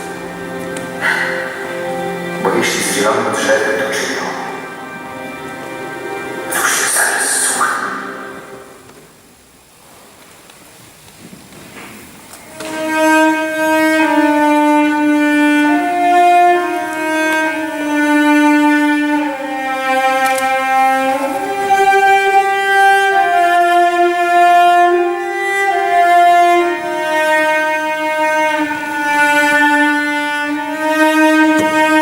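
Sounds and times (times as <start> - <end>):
bowed string instrument melody: 0.0 - 6.8, 12.5 - 32.0.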